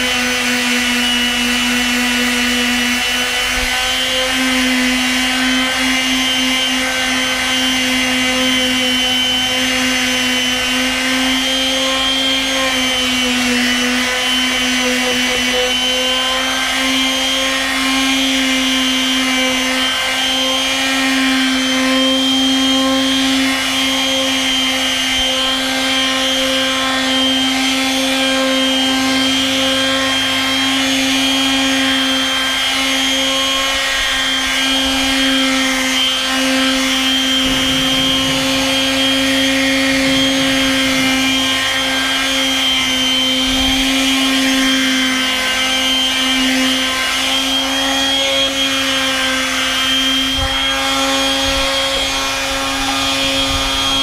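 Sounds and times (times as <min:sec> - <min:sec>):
palm sander running: 0:00.0 - 0:54.0.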